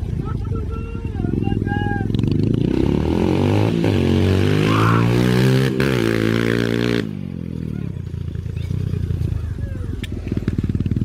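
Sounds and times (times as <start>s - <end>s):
dirt bike engine passing by: 0.0s - 11.0s.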